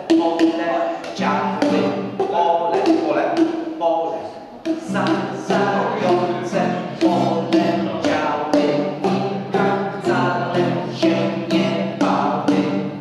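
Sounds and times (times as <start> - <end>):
acoustic guitar strumming: 0.0 - 3.9, 4.5 - 13.0.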